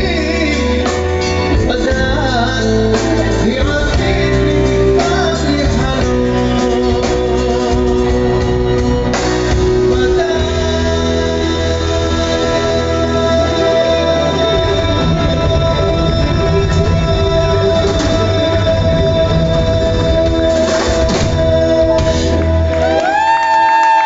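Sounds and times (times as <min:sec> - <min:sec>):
steady bass: 0:00.0 - 0:23.6
guitar: 0:00.0 - 0:24.0
person singing: 0:00.0 - 0:24.0.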